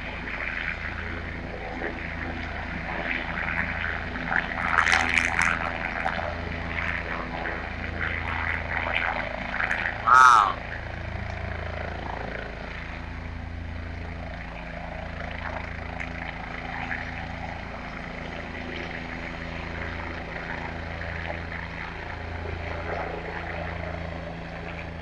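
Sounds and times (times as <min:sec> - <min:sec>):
helicopter rotor and engine drone: 0:00.0 - 0:25.0.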